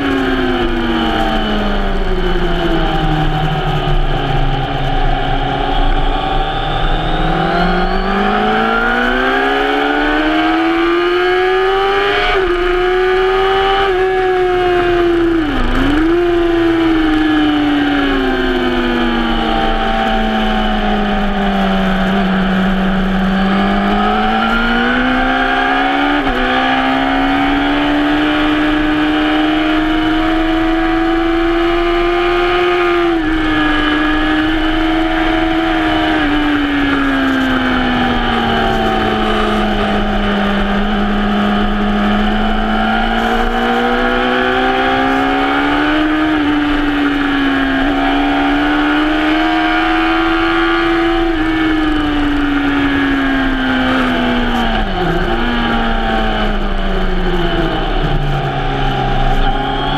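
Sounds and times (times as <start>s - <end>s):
motorcycle engine at speed: 0.0s - 59.9s.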